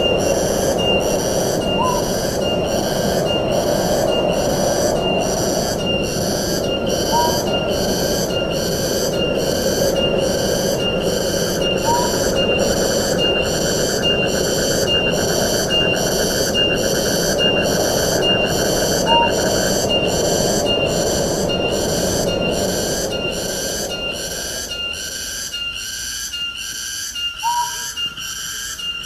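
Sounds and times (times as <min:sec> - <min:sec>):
wind rushing: 0:00.0 - 0:24.8.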